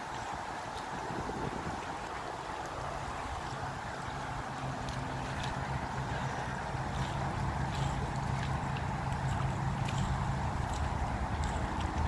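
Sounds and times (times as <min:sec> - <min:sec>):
outboard motor hum: 0:00.0 - 0:12.0
river rushing: 0:00.0 - 0:12.0
wind: 0:00.0 - 0:12.0.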